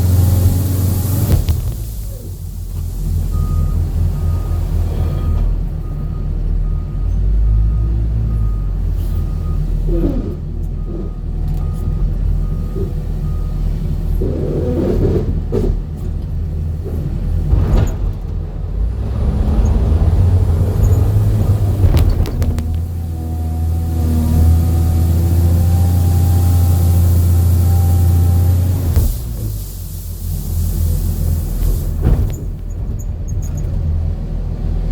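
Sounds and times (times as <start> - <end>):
heavy vehicle engine rumbling: 0.0 - 34.9.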